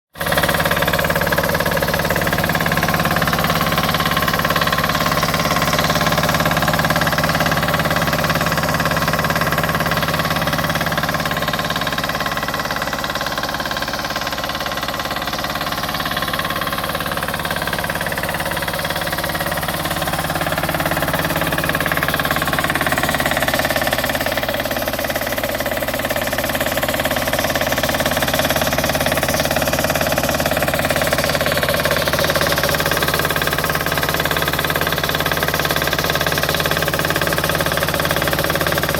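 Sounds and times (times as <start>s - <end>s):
diesel compressor running: 0.1s - 38.9s.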